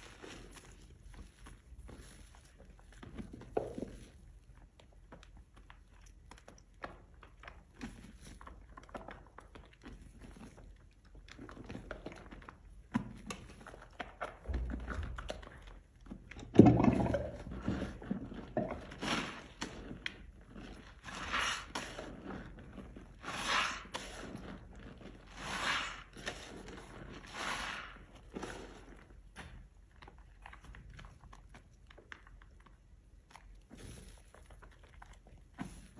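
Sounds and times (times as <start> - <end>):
wet soap scraping and squishing: 0.0 - 35.9.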